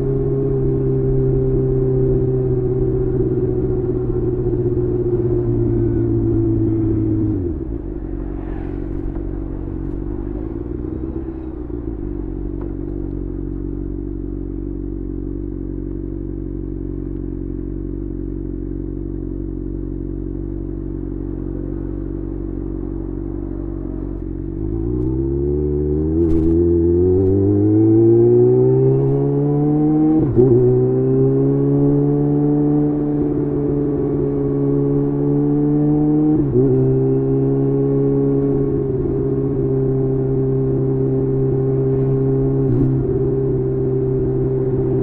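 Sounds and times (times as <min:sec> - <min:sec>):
motorcycle engine revving and idling: 0:00.0 - 0:45.0.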